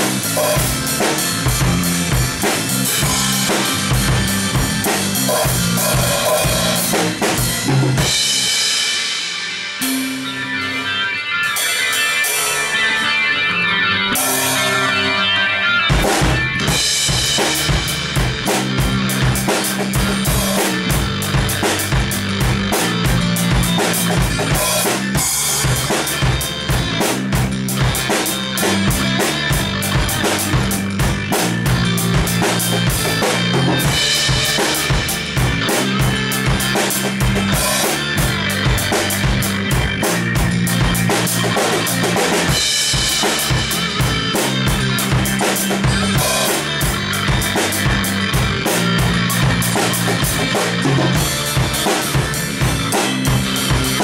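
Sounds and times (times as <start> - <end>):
drum kit rock groove: 0.0 - 54.0
rock song recording: 0.0 - 54.0.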